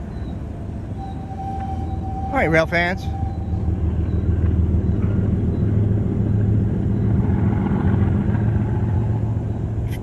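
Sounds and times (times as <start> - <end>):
freight train rolling on rails: 0.0 - 10.0.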